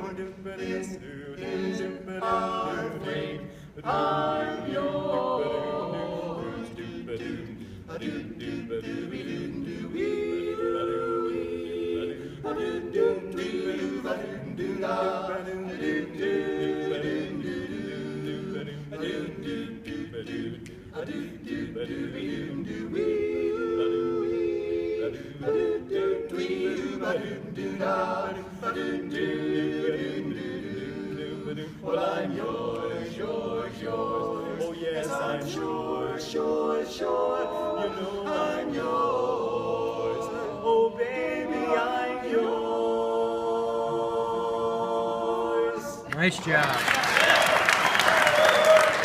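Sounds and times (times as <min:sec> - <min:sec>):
a cappella quartet singing: 0:00.0 - 0:46.1, 0:47.0 - 0:49.0.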